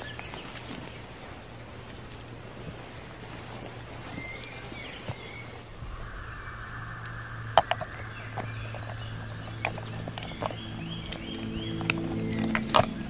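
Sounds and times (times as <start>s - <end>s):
small birds chirping: 0.0s - 1.2s, 1.9s - 13.0s.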